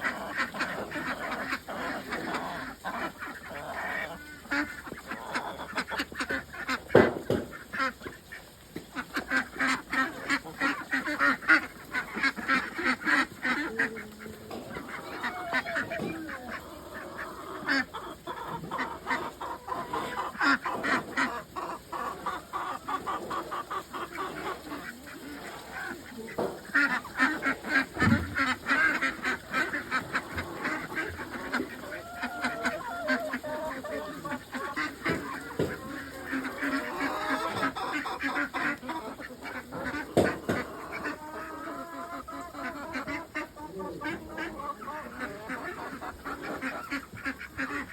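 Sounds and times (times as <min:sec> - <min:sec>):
waterfowl flock calling: 0:00.0 - 0:47.9.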